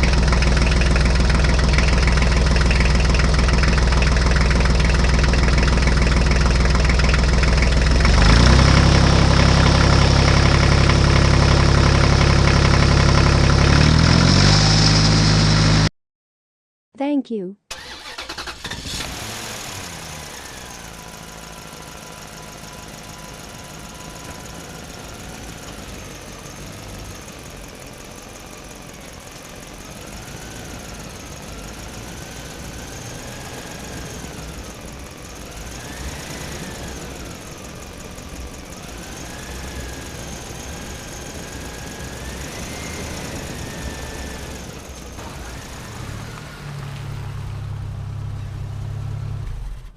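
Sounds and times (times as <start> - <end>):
vehicle engine running: 0.0 - 15.9, 17.7 - 49.9.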